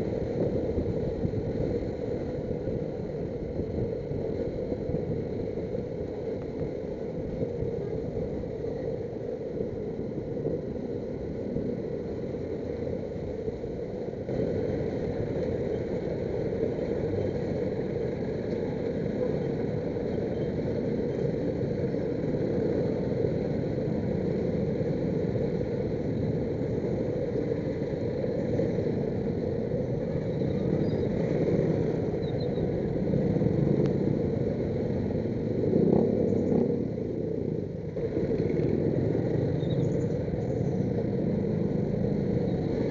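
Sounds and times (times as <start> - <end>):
heavy road traffic rumble: 0.0 - 42.9.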